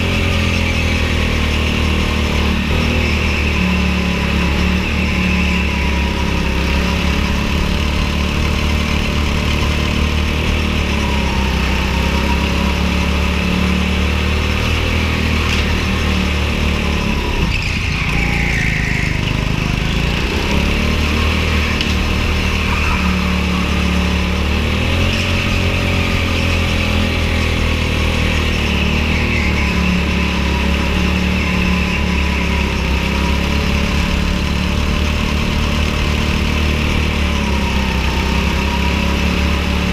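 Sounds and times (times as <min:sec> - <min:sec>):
go-kart engine buzzing: 0:00.0 - 0:39.9.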